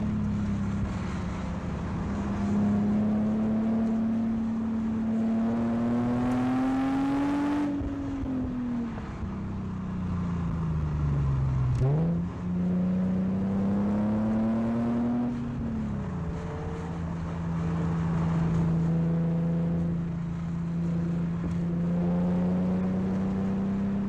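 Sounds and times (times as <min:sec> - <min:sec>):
car engine heard from cabin: 0:00.0 - 0:24.0.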